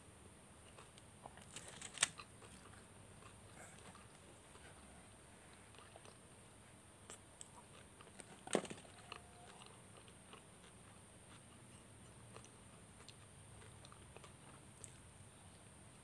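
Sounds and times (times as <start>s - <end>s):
soft chewing: 0.6s - 16.0s.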